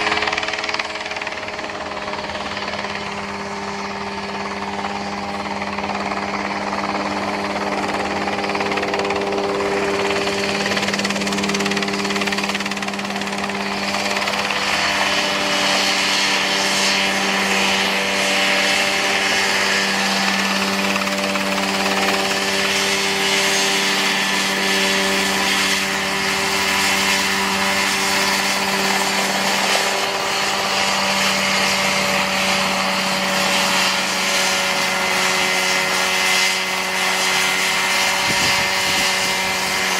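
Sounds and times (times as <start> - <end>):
helicopter engine drone: 0.0 - 39.9
whirring rush: 0.0 - 39.9.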